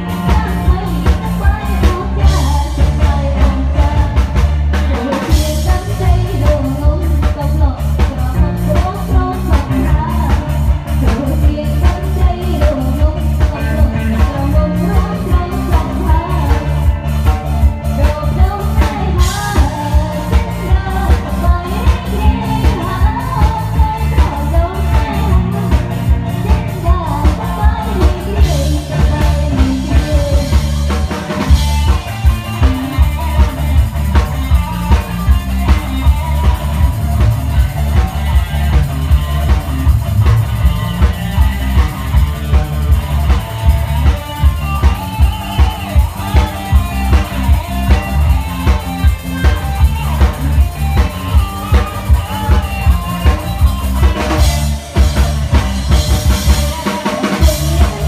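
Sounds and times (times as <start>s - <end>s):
live band playing dance music: 0.0s - 58.0s
steady bass drum beat: 0.0s - 58.0s.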